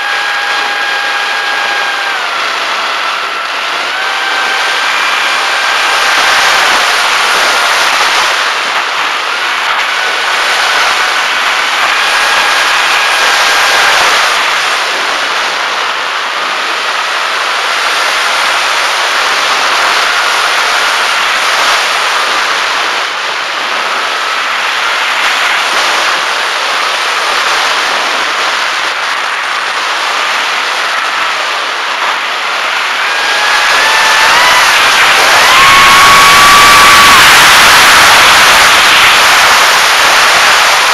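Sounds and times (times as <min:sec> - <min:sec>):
heavy wind rush: 0:00.0 - 0:40.9
model plane motor whining: 0:00.0 - 0:40.9.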